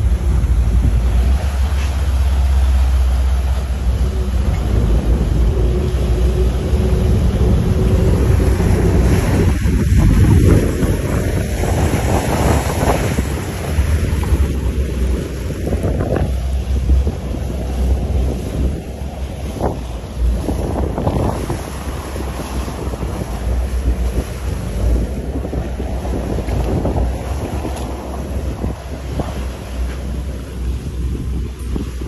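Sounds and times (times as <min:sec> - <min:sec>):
boat engines running: 0:00.0 - 0:32.0
propeller wash churning water: 0:00.0 - 0:32.0
wind buffeting microphone: 0:00.0 - 0:32.0.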